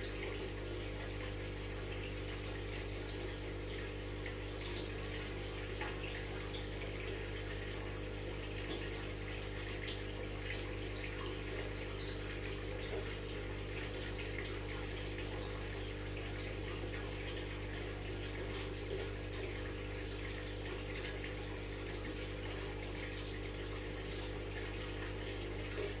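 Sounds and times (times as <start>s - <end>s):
aquarium water bubbling: 0.0s - 26.0s
tank pump hum: 0.0s - 26.0s.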